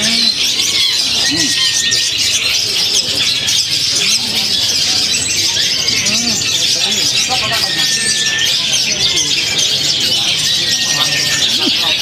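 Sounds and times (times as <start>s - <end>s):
bird singing high chirps: 0.0s - 12.0s.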